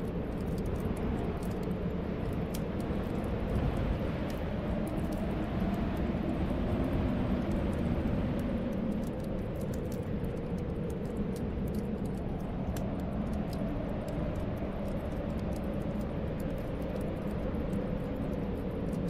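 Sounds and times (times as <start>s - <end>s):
low snowstorm wind: 0.0s - 19.0s
wood fire crackling: 0.0s - 19.0s.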